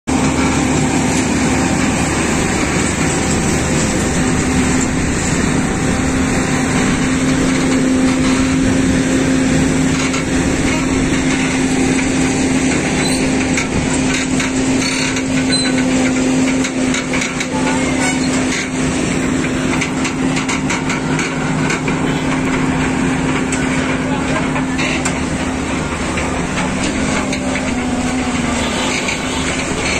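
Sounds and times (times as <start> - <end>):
heavy truck engine running: 0.0 - 29.9
road noise: 0.0 - 29.9.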